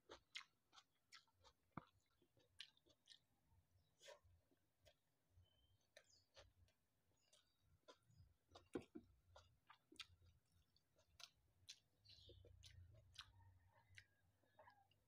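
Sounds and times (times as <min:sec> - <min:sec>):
person chewing with mouth clicks: 0:00.0 - 0:05.1, 0:05.8 - 0:15.0.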